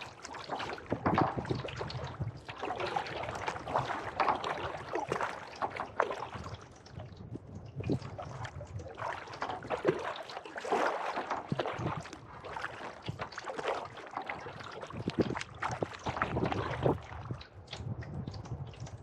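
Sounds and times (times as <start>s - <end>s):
paddle splashing through water: 0.0s - 19.0s
water dripping: 0.0s - 19.0s.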